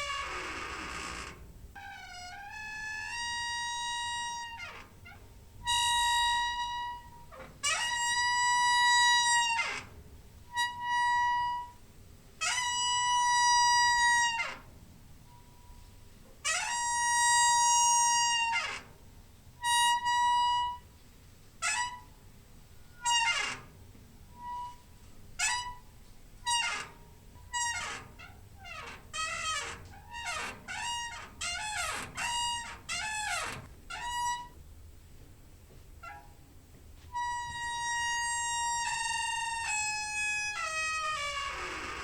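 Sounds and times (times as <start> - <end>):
door hinge squeaking: 0.0 - 11.8, 12.4 - 20.9, 21.6 - 22.2, 22.8 - 34.7, 36.0 - 36.5, 37.1 - 42.0.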